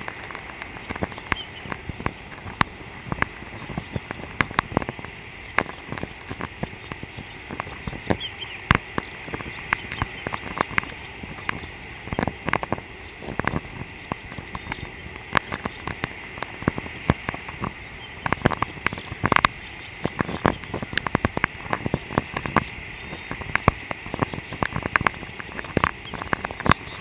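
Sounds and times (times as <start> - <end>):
high-pitched insect chorus: 0.0 - 27.0
sharp clicks and taps: 0.0 - 27.0.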